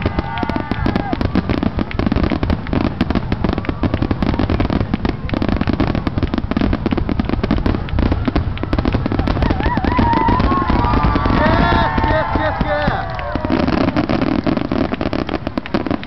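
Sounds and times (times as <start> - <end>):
fireworks cracking and popping: 0.0 - 16.0.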